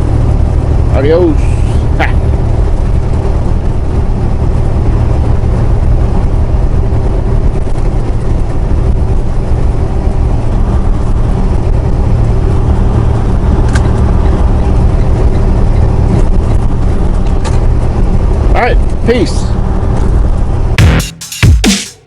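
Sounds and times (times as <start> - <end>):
road noise: 0.0 - 22.0
truck diesel engine drone: 0.0 - 22.0.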